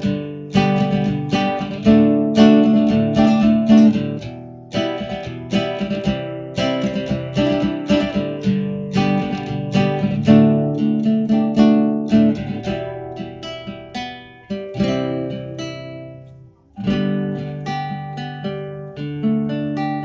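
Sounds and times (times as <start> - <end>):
fingerpicked nylon string guitar: 0.0 - 20.0.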